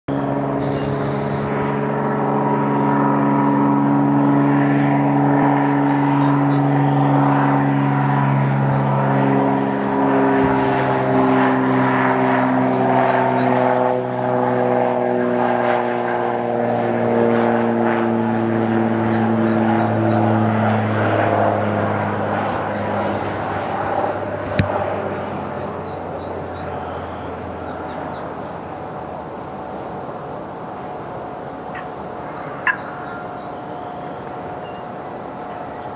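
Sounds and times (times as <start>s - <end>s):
propeller plane engine: 0.1s - 35.9s.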